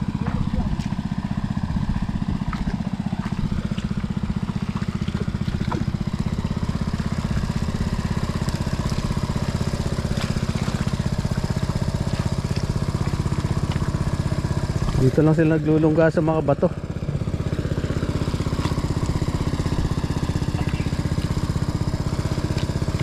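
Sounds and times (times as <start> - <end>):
water pump engine chugging: 0.0 - 23.0.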